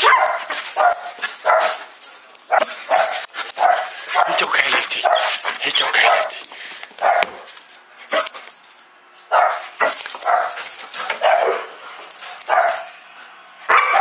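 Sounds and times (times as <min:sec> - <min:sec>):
dog barking excitedly: 0:00.0 - 0:08.5, 0:09.3 - 0:12.9, 0:13.7 - 0:14.0.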